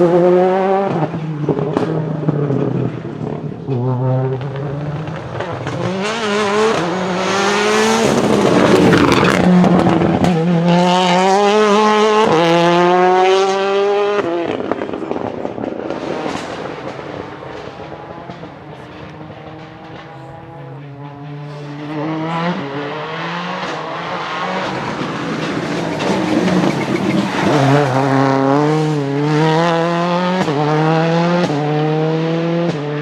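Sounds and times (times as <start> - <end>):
rally car accelerating through gears: 0.0 - 33.0.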